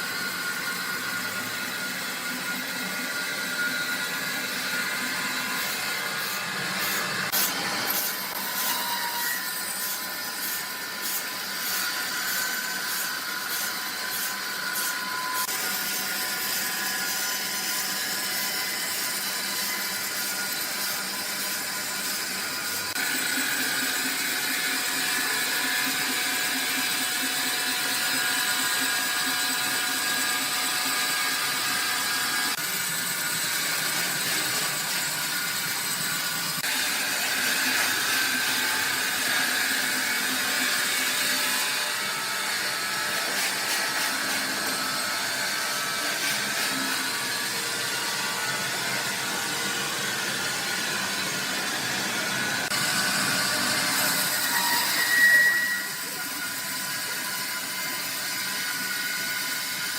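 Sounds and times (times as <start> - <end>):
sawmill machinery whirring: 0.0 - 59.9.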